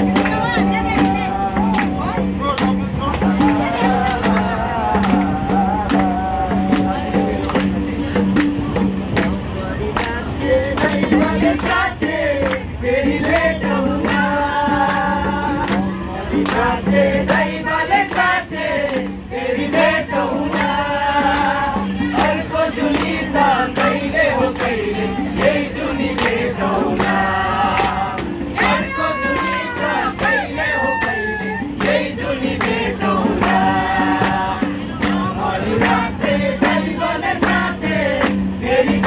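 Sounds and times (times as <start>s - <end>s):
group singing: 0.0s - 39.0s
hands clapping a beat: 0.0s - 39.0s.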